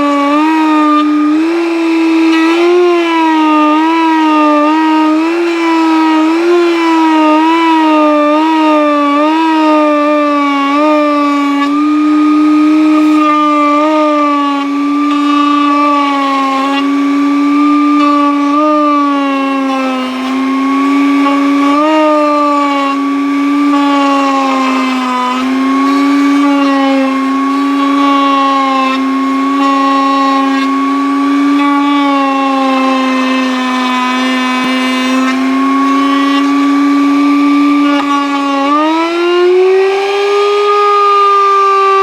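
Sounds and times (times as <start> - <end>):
router motor whining: 0.0 - 42.0.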